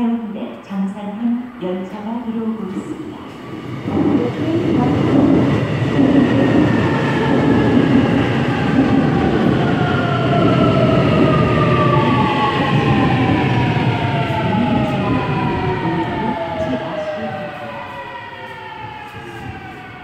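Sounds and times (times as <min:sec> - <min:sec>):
train wheels rumbling on rail: 0:02.0 - 0:20.0.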